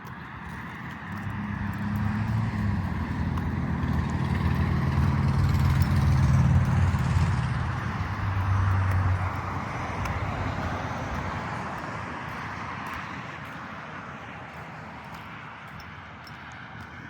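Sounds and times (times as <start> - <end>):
tyre noise on road: 0.0 - 17.0
vehicle engine hum: 0.0 - 17.0.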